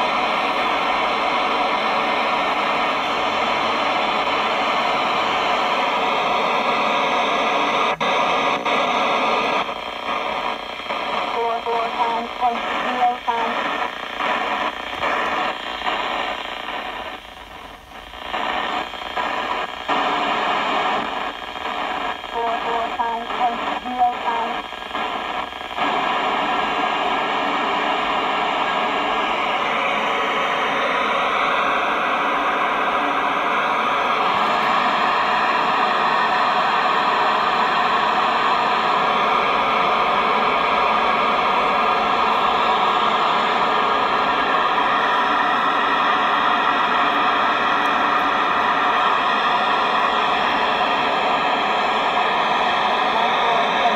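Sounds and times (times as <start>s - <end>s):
radio static hiss: 0.0s - 53.9s.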